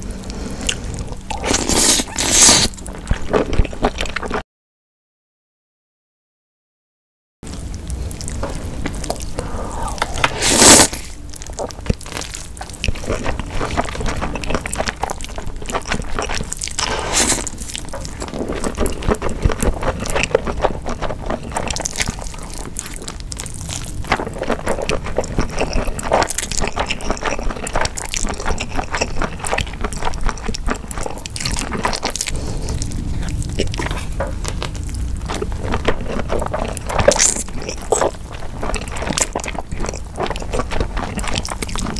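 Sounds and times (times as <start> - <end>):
person slurping and chewing noodles: 0.0 - 4.4, 7.9 - 41.9.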